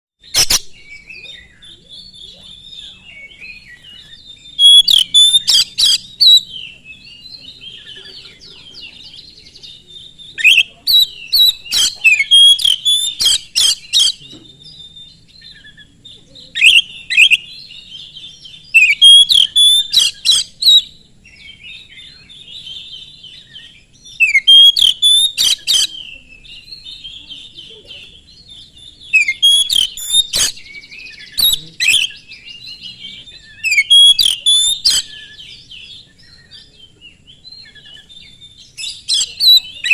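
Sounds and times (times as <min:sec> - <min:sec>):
magpie-robin warbling song: 0:00.2 - 0:08.5, 0:09.7 - 0:20.9, 0:21.7 - 0:39.9.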